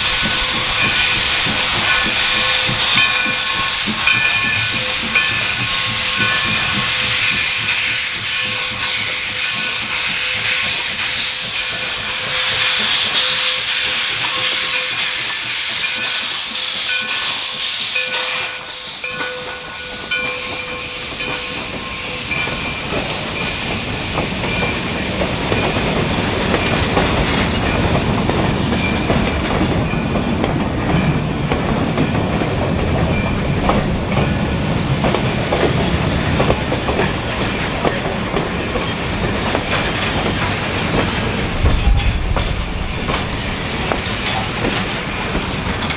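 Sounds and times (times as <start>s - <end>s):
steam locomotive hissing: 0.0s - 45.9s
train rumbling by: 0.0s - 45.9s
wheels clicking over rail joints: 0.0s - 45.9s.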